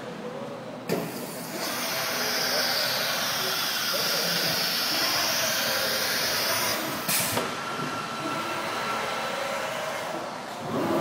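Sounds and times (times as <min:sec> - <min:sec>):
cnc router hiss and whine: 0:01.4 - 0:11.0.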